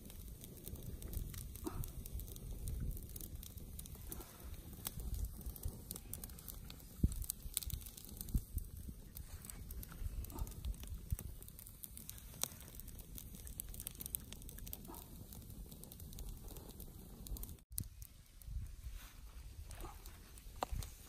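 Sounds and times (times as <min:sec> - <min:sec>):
dry grass rustling and snapping: 0:00.0 - 0:15.1, 0:17.4 - 0:21.0.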